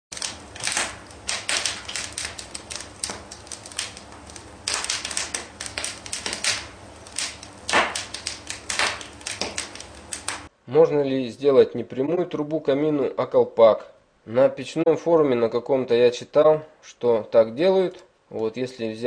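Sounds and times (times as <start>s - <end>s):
low steady hum: 0.1s - 15.9s.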